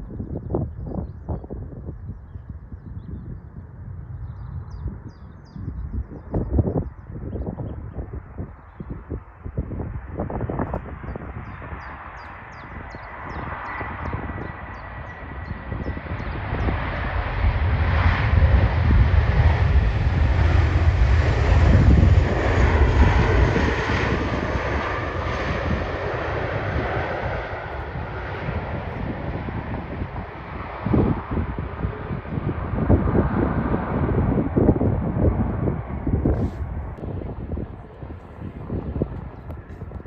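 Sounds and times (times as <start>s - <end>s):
jet airliner passing: 6.0s - 40.0s.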